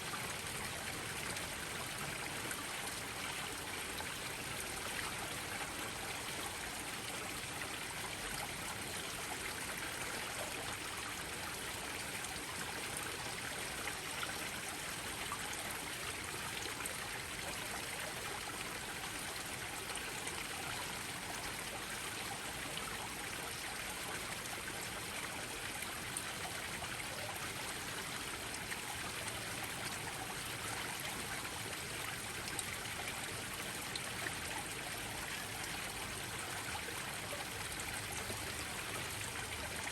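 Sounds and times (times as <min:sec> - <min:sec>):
small waterfalls splashing: 0:00.0 - 0:39.9.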